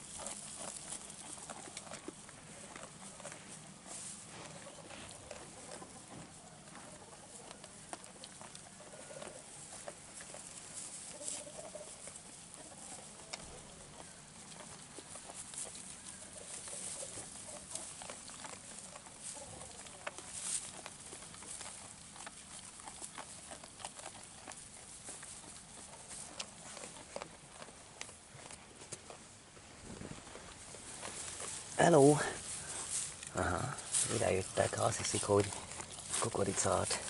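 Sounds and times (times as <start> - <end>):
sheep chewing rustling hay: 0.0 - 37.0.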